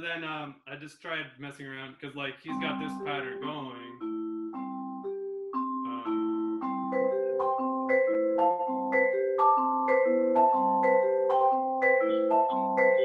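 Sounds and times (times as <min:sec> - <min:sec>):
vibraphone ostinato: 0:02.5 - 0:13.0.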